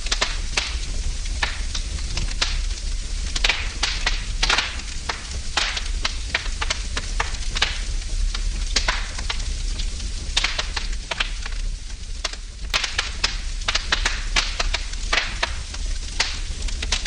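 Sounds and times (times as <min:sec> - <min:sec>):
fire hissing: 0:00.0 - 0:17.0
wood fire crackling and popping: 0:00.0 - 0:17.0.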